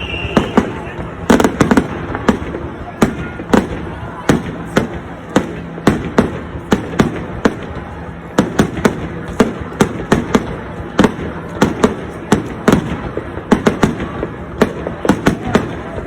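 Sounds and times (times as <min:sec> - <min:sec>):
fireworks rumble and crackle: 0:00.0 - 0:16.0
fireworks sharp bangs: 0:00.0 - 0:16.0.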